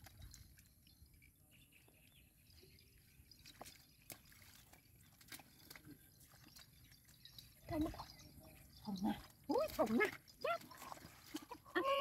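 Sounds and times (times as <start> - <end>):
faint water drips and splashes: 0.0 - 12.0.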